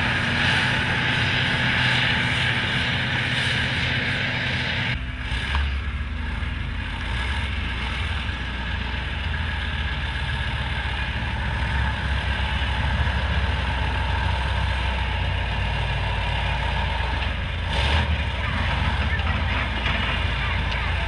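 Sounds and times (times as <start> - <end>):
heavy vehicle engine running: 0.0 - 21.0.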